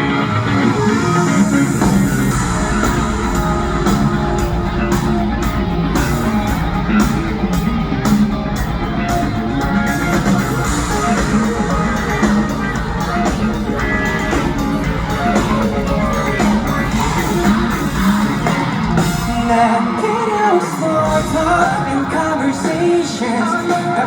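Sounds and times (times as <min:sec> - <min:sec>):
electric guitar: 0:00.0 - 0:24.0
live pop-rock band playing: 0:00.0 - 0:24.0.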